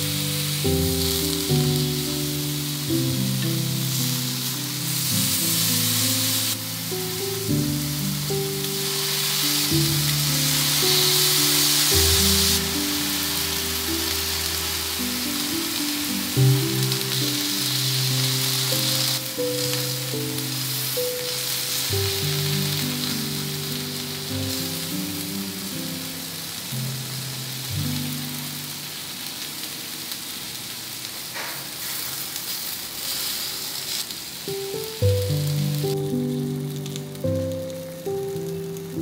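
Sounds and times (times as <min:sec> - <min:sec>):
background music: 0:00.0 - 0:28.4, 0:35.0 - 0:39.0
steak sizzling on a grill pan: 0:00.0 - 0:39.0.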